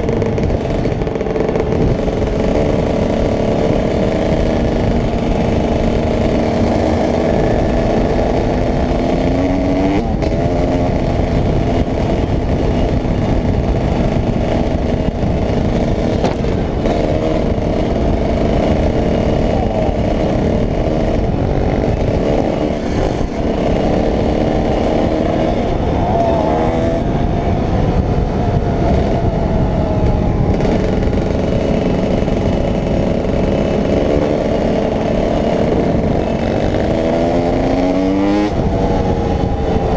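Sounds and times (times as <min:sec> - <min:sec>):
dirt bike engine running: 0:00.0 - 0:39.9
wind noise on microphone: 0:00.0 - 0:39.9.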